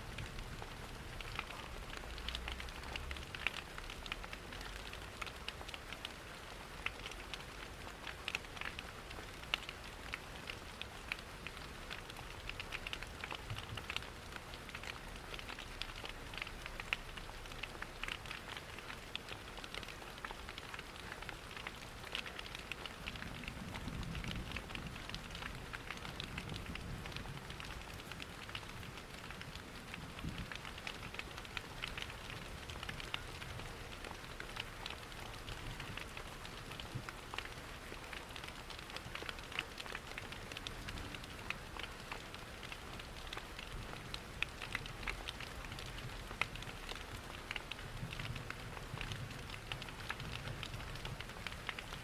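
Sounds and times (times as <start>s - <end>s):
steady rain: 0.0s - 52.0s
wood fire crackling: 0.2s - 52.0s.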